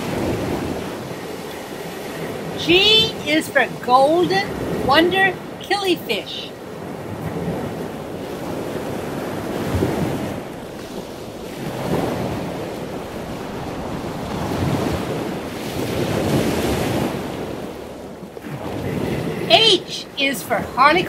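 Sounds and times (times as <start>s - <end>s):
ocean waves washing: 0.0s - 21.0s.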